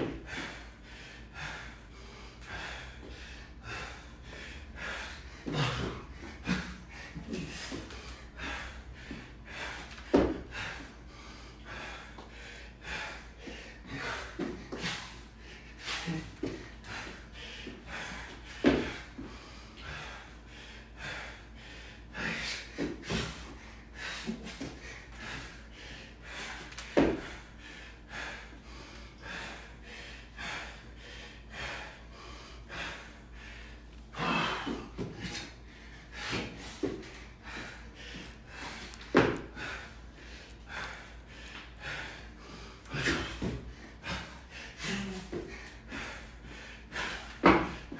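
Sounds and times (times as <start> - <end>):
man breathing hard: 0.0 - 47.9.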